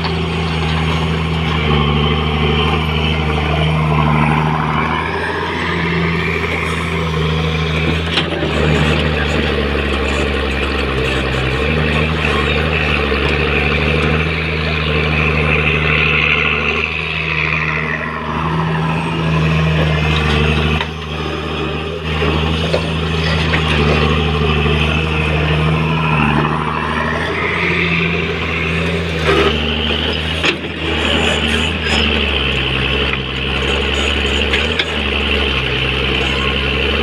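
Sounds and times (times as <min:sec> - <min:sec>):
excavator diesel engine running: 0:00.0 - 0:37.0
hydraulic whine: 0:00.0 - 0:37.0.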